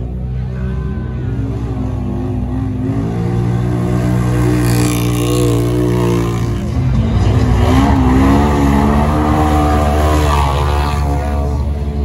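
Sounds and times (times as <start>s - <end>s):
atv engine at full throttle: 0.0s - 12.0s.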